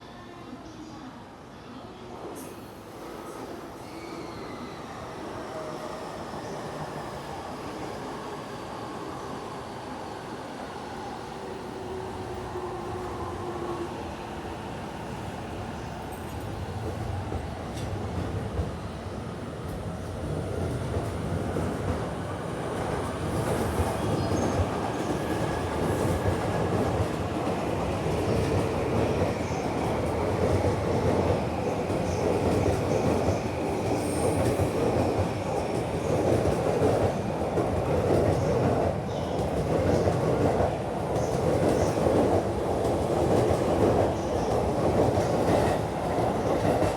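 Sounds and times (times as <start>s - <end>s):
train rumbling on rails: 2.2s - 46.9s.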